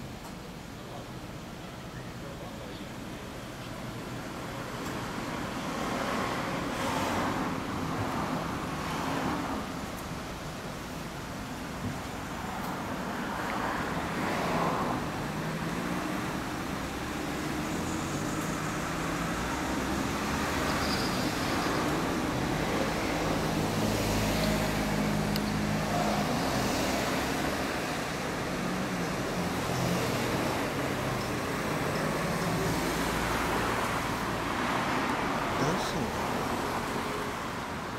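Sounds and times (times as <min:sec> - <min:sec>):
road traffic passing: 0:00.0 - 0:37.9.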